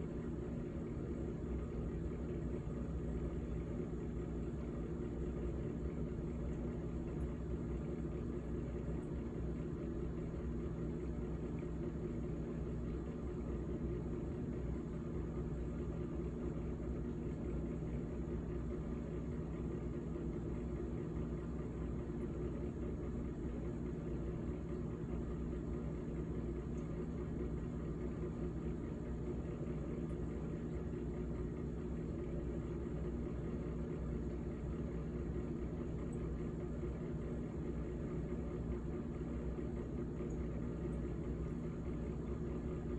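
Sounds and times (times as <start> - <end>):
refrigerator humming: 0.0 - 42.9.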